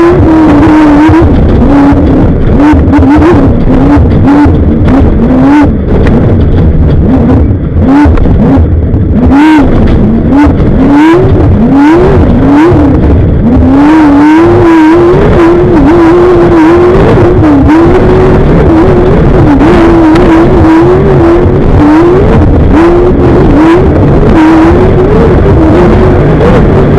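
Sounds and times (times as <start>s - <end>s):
race vehicle engine revving: 0.0s - 26.9s
rushing and rattling noise: 0.0s - 26.9s.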